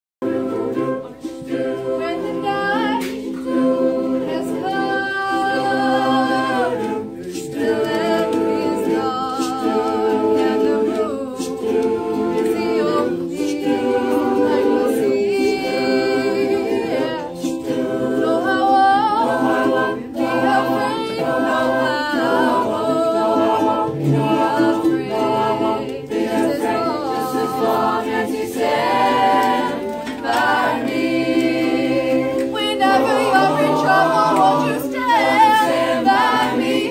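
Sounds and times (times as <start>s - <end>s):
choir singing a cappella: 0.2s - 36.9s.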